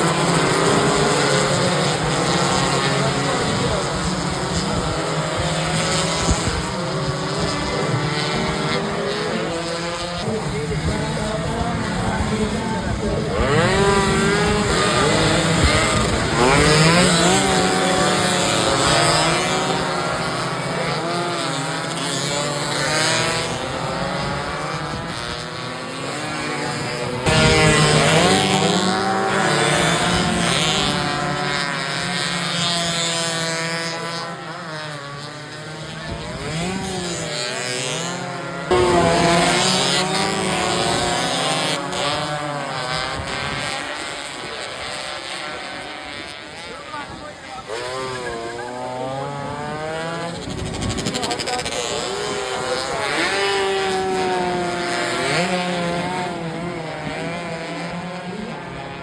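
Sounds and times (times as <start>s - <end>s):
racing motorcycle engines revving: 0.0s - 59.0s.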